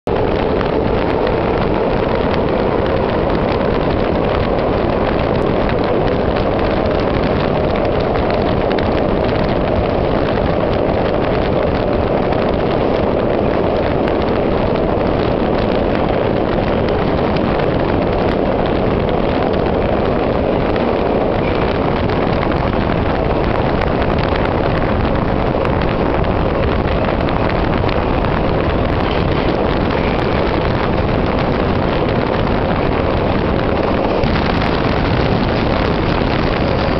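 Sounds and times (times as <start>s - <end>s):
metro train rumbling in tunnel: 0.0s - 36.9s.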